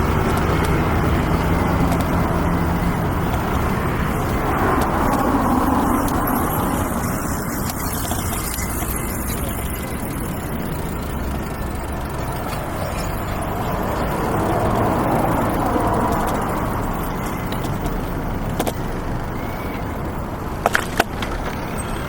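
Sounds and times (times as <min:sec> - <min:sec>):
passing cars and trucks: 0:00.0 - 0:22.0.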